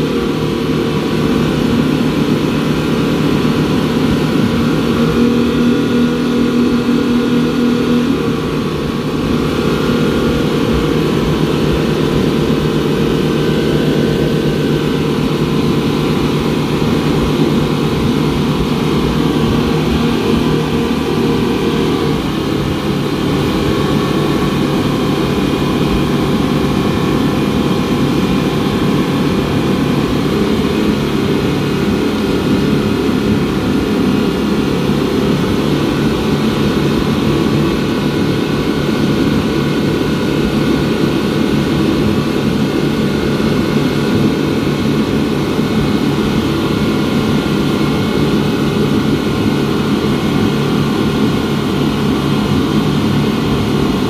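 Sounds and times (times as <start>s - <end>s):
outboard motors droning: 0.0s - 54.0s.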